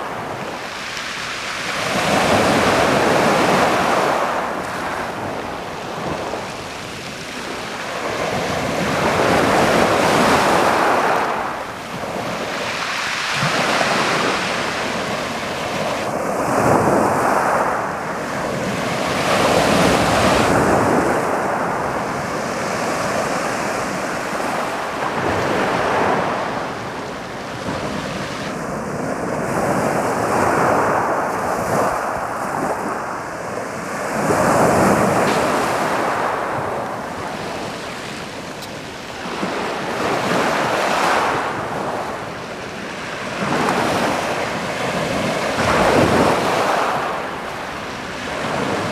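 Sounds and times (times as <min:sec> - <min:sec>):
waves on a pebble beach: 0:00.0 - 0:48.9.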